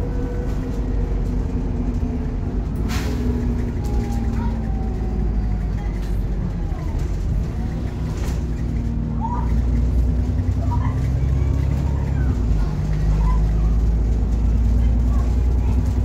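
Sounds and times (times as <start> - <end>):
bus engine droning: 0.0 - 16.0.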